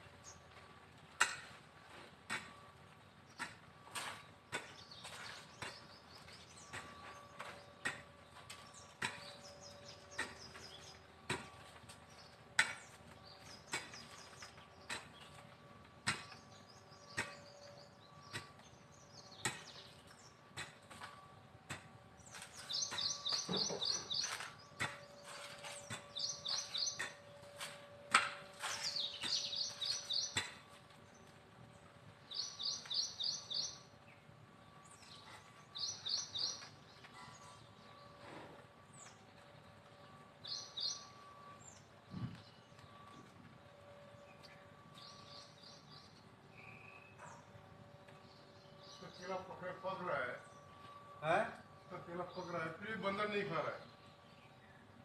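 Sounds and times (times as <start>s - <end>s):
birds chirping trills: 0.0s - 1.4s, 2.4s - 55.0s.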